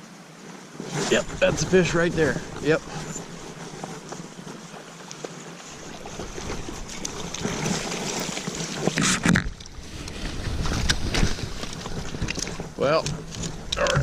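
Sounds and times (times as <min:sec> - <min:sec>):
creek water flowing: 0:00.9 - 0:14.0.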